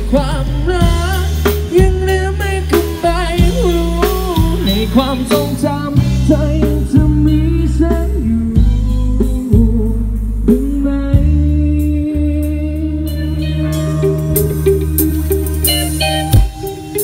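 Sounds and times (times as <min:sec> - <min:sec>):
drum kit: 0:00.0 - 0:17.0
heavy bass: 0:00.0 - 0:17.0
loud live band music over speakers: 0:00.0 - 0:17.0.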